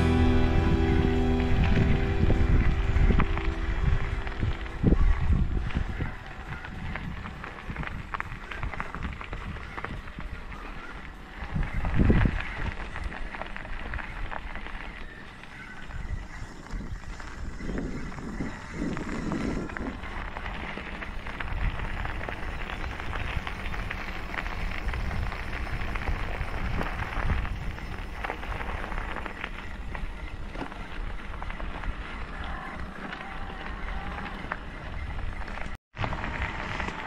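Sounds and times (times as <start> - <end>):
bike tyres crunching on gravel: 0.0 - 37.0
wind rumbling on microphone: 0.0 - 37.0.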